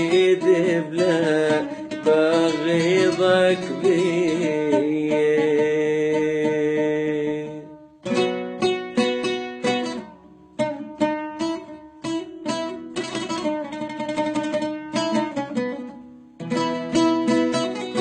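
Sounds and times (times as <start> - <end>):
plucked string instrument melody: 0.0 - 18.0.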